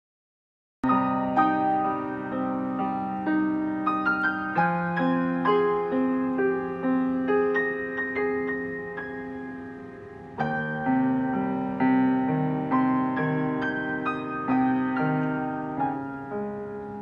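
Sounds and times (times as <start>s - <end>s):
grand piano playing slow piece: 0.8s - 17.0s.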